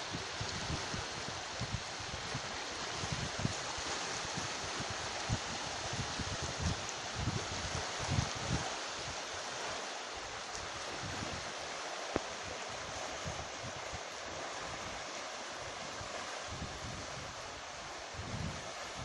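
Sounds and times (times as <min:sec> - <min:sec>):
sea surf rushing: 0:00.0 - 0:19.0
wind buffeting microphone: 0:00.0 - 0:19.0.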